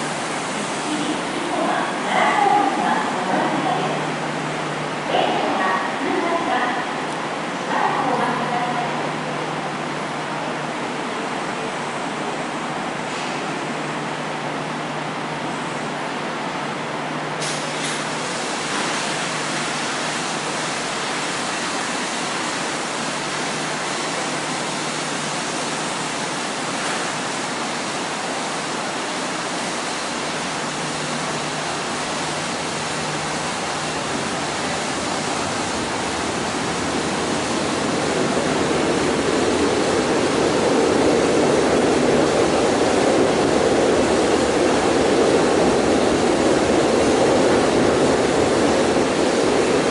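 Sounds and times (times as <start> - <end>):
train equipment rushing hum: 0.0 - 49.9
train rumble: 0.0 - 49.9.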